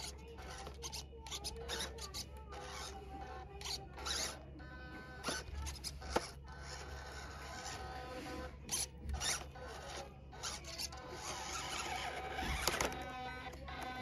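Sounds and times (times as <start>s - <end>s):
toy car motor whining: 0.0s - 14.0s.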